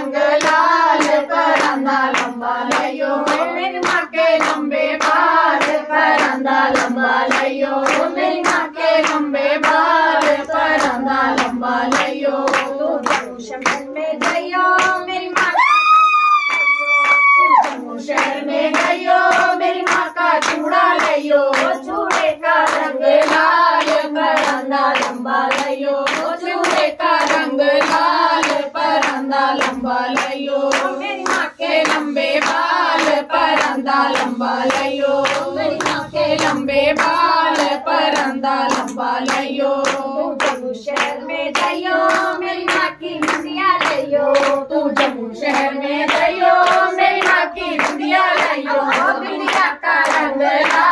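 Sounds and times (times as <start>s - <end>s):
hand-clapping on the beat: 0.0s - 50.9s
women singing devotional song: 0.0s - 50.9s.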